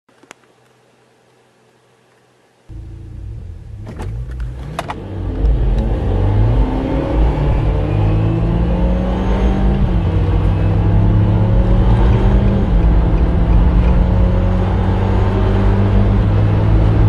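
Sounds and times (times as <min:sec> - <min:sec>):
car engine accelerating hard: 0:02.7 - 0:17.0.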